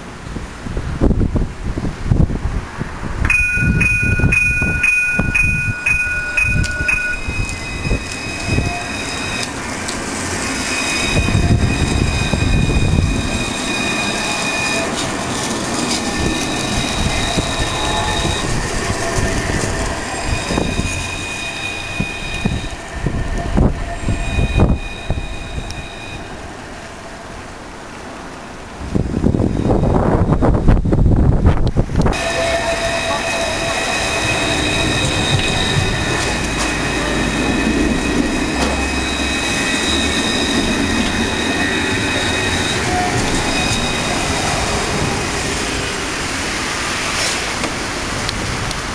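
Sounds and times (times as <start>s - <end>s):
tram rumble on rails: 0.0s - 48.9s
tram wheels squealing: 3.3s - 30.6s, 32.1s - 48.2s.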